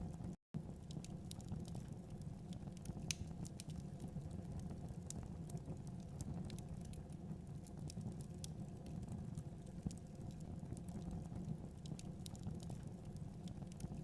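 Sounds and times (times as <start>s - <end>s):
fire crackling and popping: 0.1s - 14.0s.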